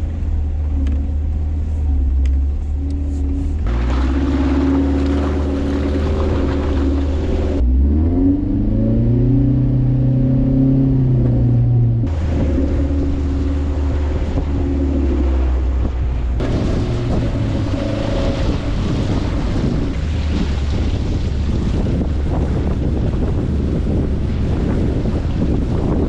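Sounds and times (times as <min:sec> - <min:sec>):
off-road vehicle engine revving: 0:00.0 - 0:26.0
wind buffeting microphone: 0:03.6 - 0:07.6, 0:08.9 - 0:26.0.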